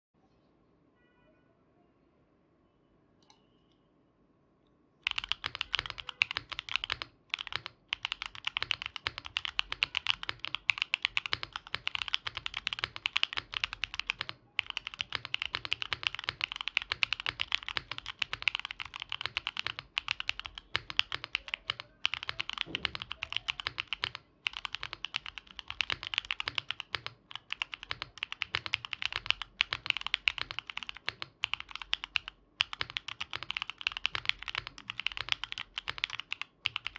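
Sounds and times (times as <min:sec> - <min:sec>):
fast mechanical keyboard typing: 0:05.0 - 0:36.9.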